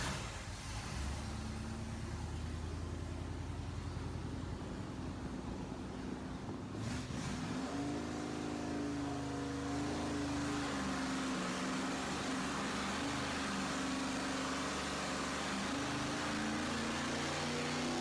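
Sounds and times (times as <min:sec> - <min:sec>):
car engine running on dyno: 0:00.0 - 0:18.0.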